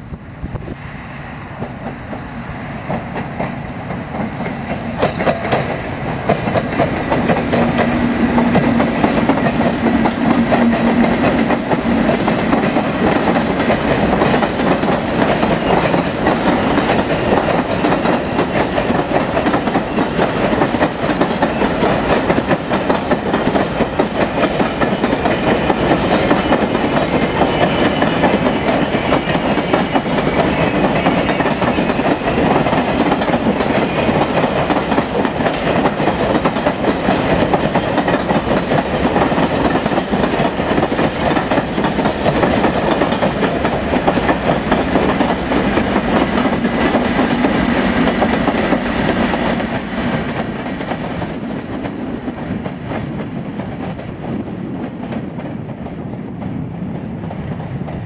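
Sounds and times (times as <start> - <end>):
diesel locomotive engine hum: 0.0 - 58.0
train wheels clickety-clack: 1.5 - 58.0.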